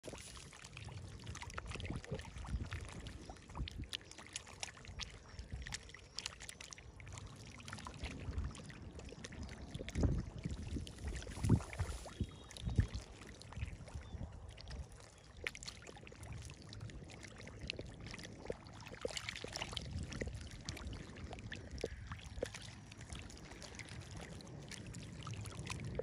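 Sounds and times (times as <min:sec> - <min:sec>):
deep splashes: 0:00.0 - 0:26.0
fish splashing in water: 0:00.0 - 0:26.0.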